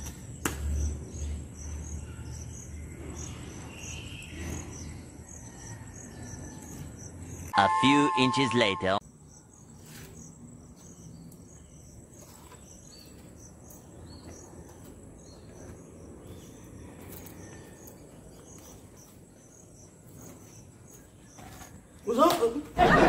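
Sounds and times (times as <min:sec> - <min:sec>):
crickets chirping: 0:00.0 - 0:08.4, 0:09.0 - 0:22.2.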